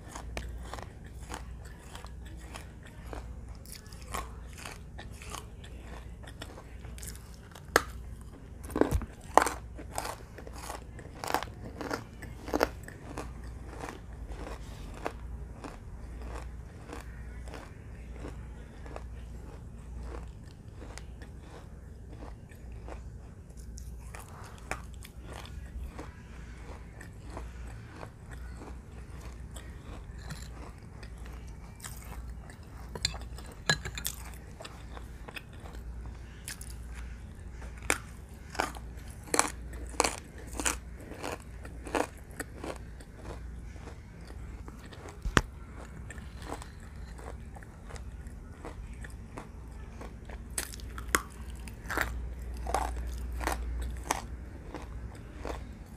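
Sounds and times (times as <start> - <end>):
biting and crunching baked clay: 0.0 - 55.9
chewing: 0.0 - 55.9.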